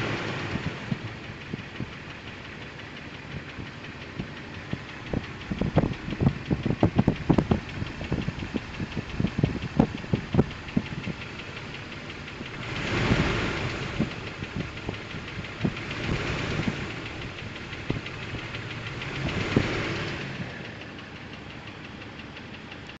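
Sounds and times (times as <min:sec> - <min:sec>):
car engine running: 0:00.0 - 0:23.0
sharp engine clicks: 0:00.0 - 0:23.0.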